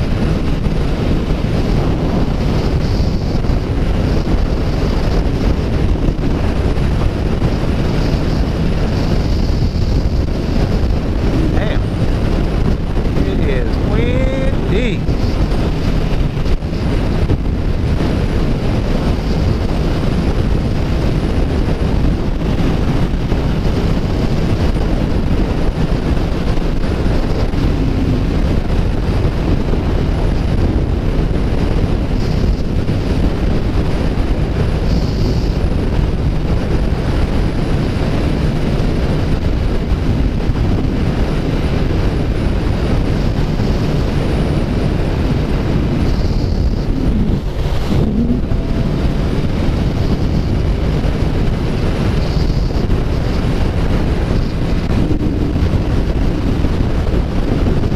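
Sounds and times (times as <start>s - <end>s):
motorcycle engine cruising: 0.0s - 57.9s
wind noise on microphone: 0.0s - 57.9s.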